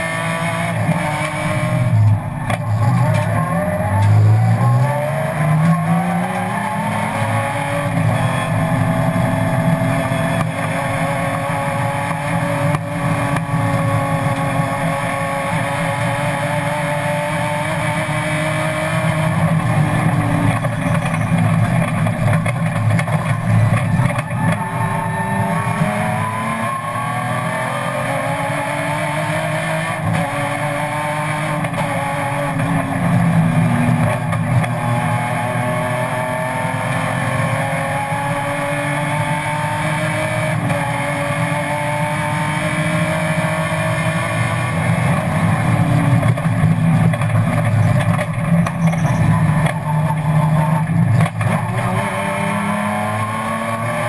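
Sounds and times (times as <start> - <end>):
race car engine accelerating: 0.0 - 54.0
road and wind noise: 0.0 - 54.0.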